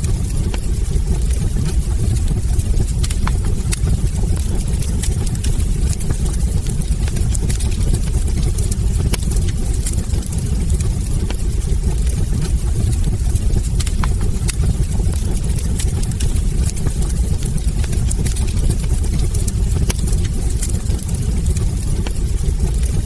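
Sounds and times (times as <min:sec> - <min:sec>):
fire rumbling: 0:00.0 - 0:23.0
logs crackling and popping: 0:00.0 - 0:23.0.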